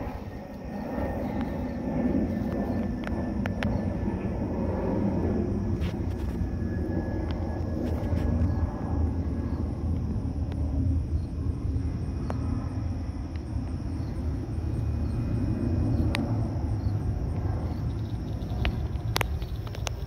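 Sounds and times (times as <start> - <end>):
faint high-pitched hum: 0.0 - 20.0
low outdoor rumble: 0.0 - 20.0.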